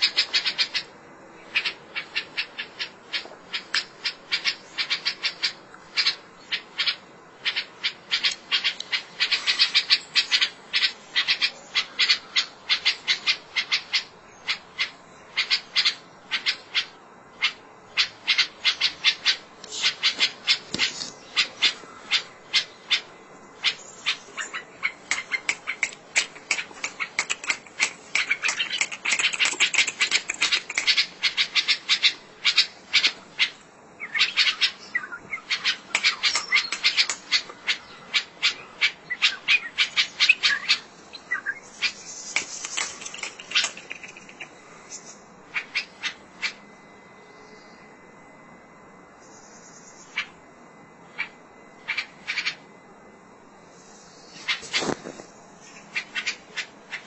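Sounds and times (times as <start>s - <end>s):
bird chattering calls: 0.0s - 46.6s, 51.1s - 52.6s, 54.0s - 57.0s.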